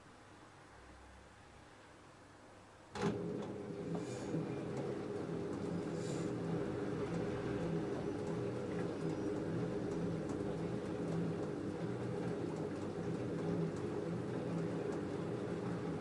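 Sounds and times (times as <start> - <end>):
washing machine motor hum: 2.9 - 16.0.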